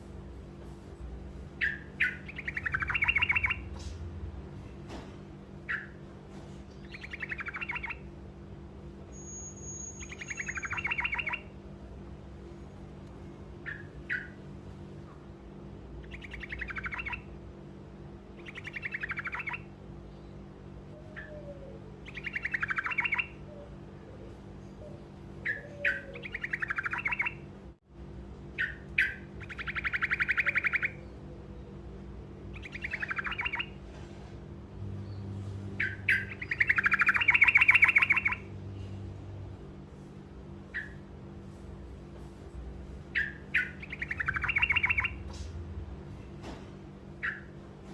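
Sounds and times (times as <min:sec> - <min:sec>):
low hum: 0:00.0 - 0:47.9.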